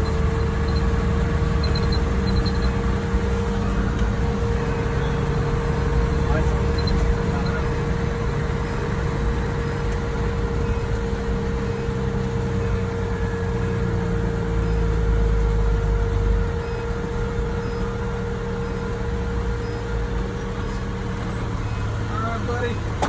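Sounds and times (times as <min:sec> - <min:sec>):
constant engine whine: 0:00.0 - 0:23.0
diesel engine rumbling: 0:00.0 - 0:23.0.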